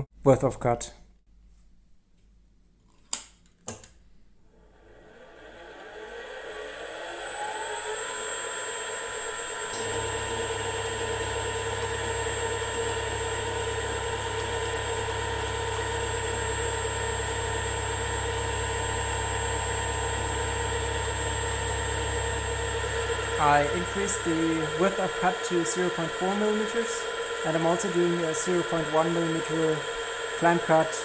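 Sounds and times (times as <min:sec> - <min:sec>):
low hum: 0:04.5 - 0:31.0
milling machine whine: 0:04.5 - 0:31.0.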